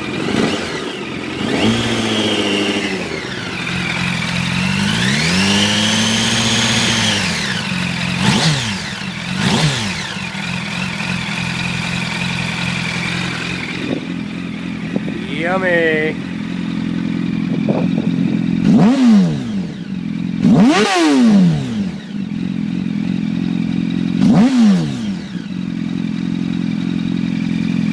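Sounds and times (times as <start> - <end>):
motorcycle engine idling and revving: 0.0 - 27.9.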